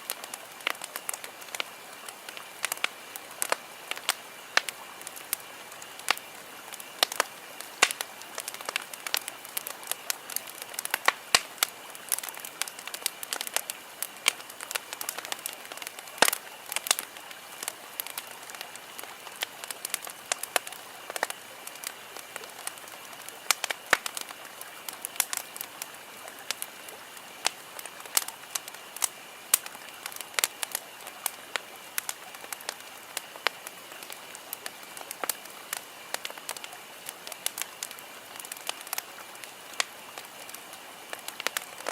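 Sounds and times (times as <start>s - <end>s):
campfire wood crackling: 0.0s - 41.9s
steady hiss: 0.0s - 41.9s.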